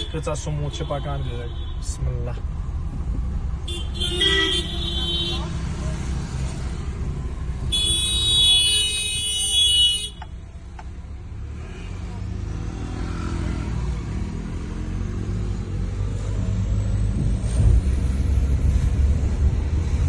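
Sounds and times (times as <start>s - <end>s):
car engine rumble: 2.0s - 20.0s.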